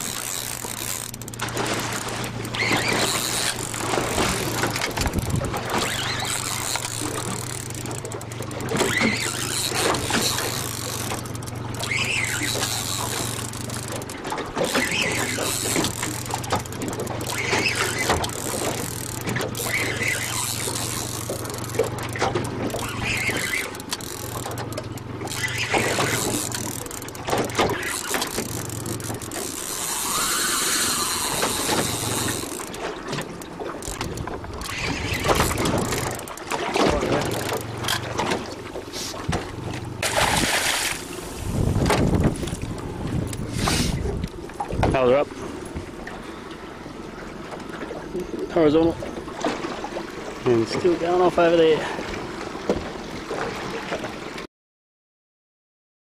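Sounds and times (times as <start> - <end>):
boat engine humming: 0.0 - 54.5
water noise: 0.0 - 54.5
wind: 0.0 - 54.5.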